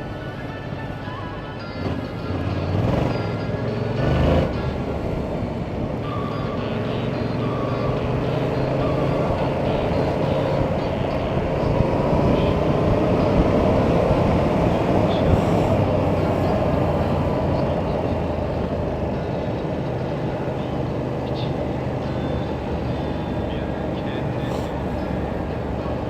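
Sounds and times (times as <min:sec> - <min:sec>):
heavy rush of noise: 0:00.0 - 0:26.0
motorcycle engine running: 0:01.8 - 0:26.0.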